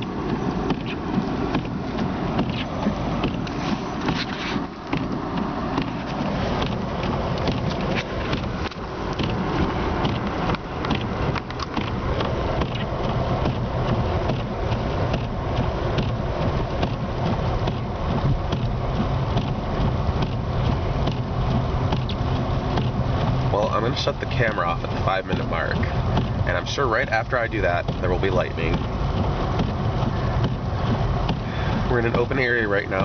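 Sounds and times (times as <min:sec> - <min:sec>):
road and engine noise: 0:00.0 - 0:33.0.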